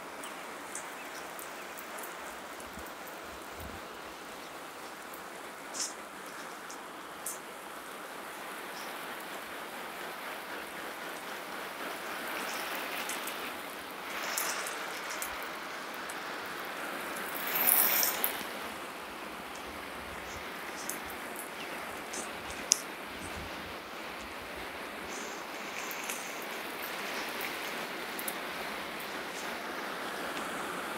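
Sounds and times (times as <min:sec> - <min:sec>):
water spray pattering on wood: 0:00.0 - 0:30.9.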